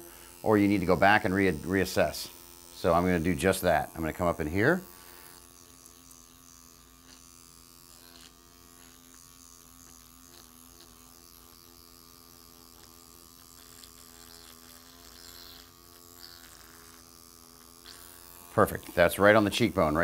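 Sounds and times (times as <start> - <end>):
microneedling pen electric hum: 0.0 - 20.0.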